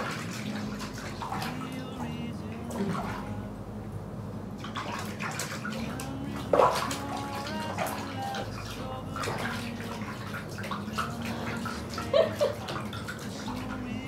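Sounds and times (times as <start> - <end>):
water splashing in baby bathtub: 0.0 - 3.5, 4.6 - 14.0.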